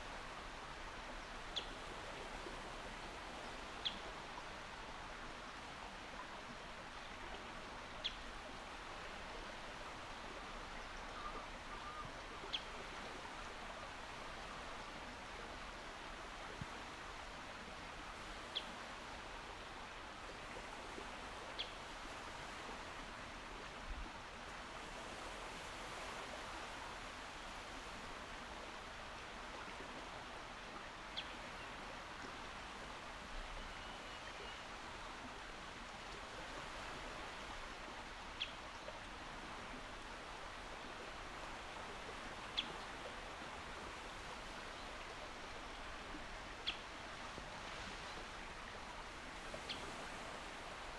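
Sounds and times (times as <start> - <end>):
calm sea washing: 0.0 - 50.9.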